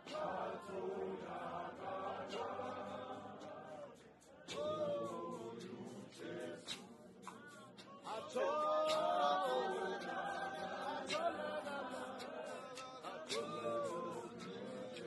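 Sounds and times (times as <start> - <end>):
congregation singing a hymn: 0.0 - 15.0.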